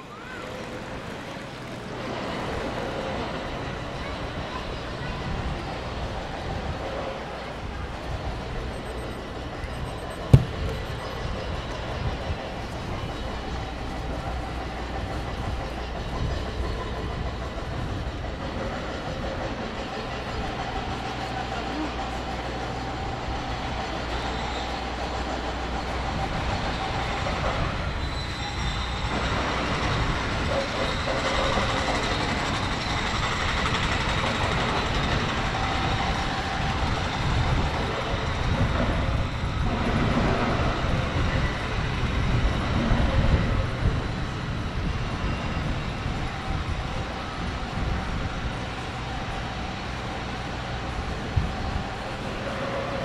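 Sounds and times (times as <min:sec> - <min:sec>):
broad rushing street noise: 0:00.0 - 0:53.0
tram electric hum: 0:00.0 - 0:53.0.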